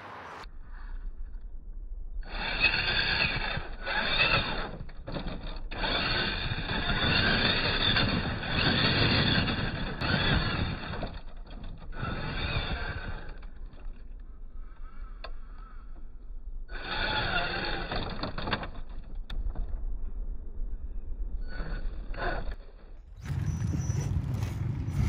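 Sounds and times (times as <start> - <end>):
toy car electric motor whining: 2.2 - 19.3, 21.4 - 25.0.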